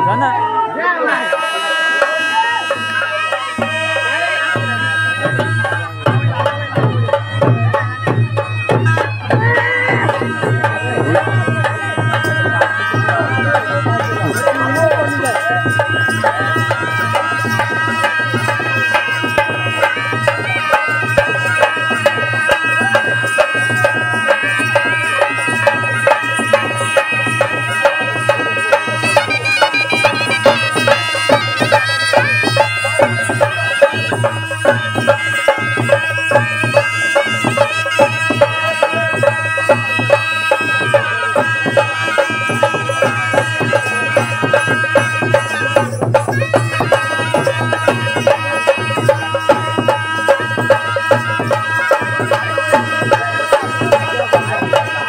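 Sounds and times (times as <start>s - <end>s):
drumming: 0.0s - 55.0s
folk melody of held notes: 0.0s - 55.0s.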